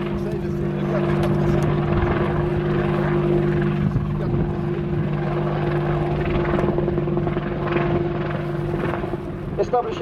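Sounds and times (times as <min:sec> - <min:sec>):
helicopter rotor chopping: 0:00.0 - 0:10.0.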